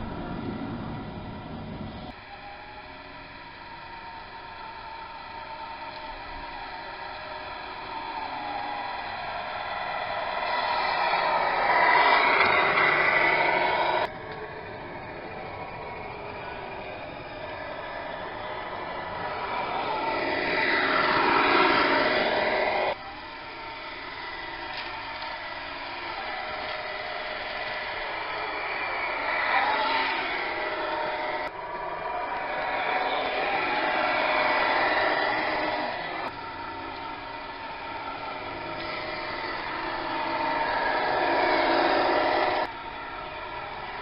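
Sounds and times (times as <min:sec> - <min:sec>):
toy truck motor and gears: 0:00.0 - 0:44.0.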